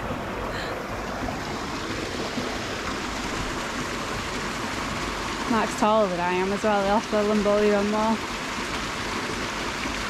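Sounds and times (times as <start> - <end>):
stream flowing over stones: 0.0 - 10.0.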